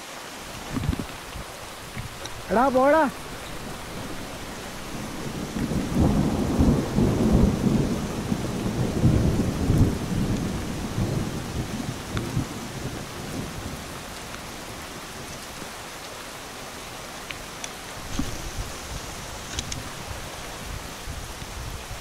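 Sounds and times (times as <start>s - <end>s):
heavy rain on a pond: 0.0s - 22.0s
thunder rumbling: 0.4s - 14.1s, 18.0s - 22.0s.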